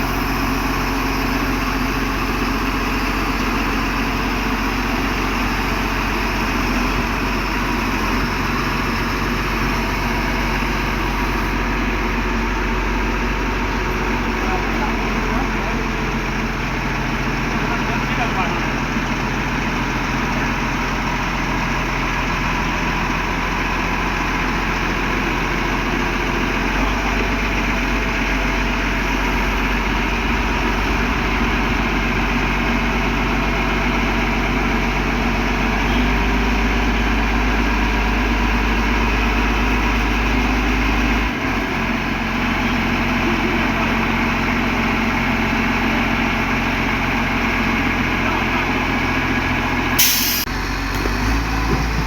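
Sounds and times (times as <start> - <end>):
heavy diesel machinery droning: 0.0 - 52.0.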